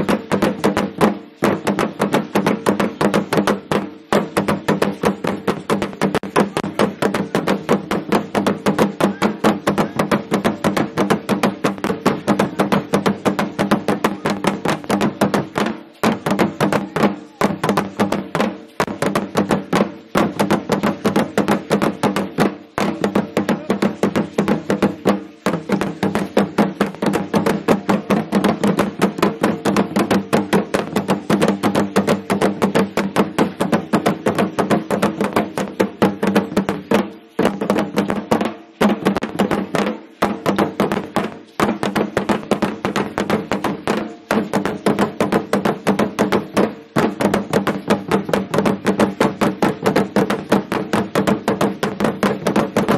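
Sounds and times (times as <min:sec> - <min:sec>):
fast drum strikes: 0:00.0 - 0:52.9.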